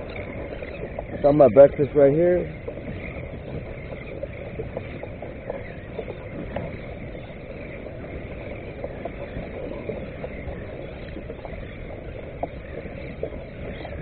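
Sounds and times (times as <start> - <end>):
water drips and ticks: 0.0 - 14.0
water lapping against kayak hull: 0.0 - 14.0.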